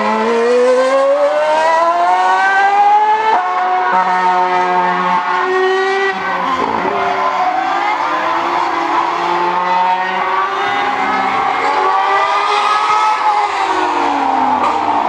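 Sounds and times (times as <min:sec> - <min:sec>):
racing car engine at high revs: 0:00.0 - 0:15.0.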